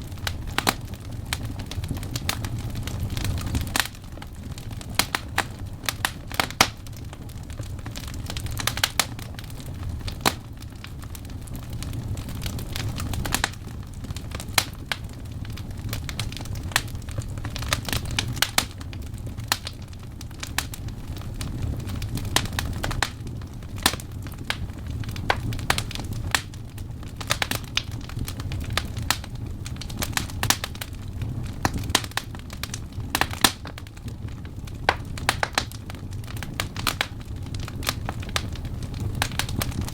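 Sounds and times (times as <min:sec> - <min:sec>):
burning logs crackling: 0:00.0 - 0:39.9
low rumble of flames: 0:00.0 - 0:39.9.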